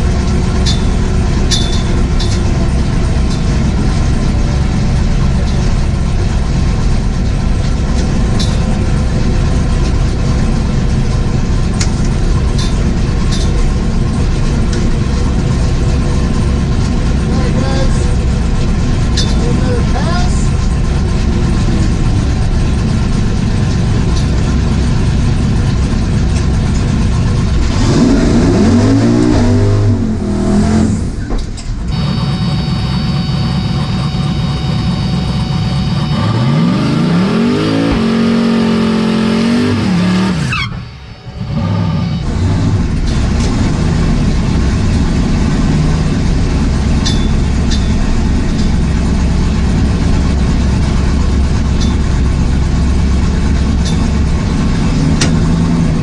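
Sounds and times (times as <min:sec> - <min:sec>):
drag car engine revving: 0:00.0 - 0:56.0.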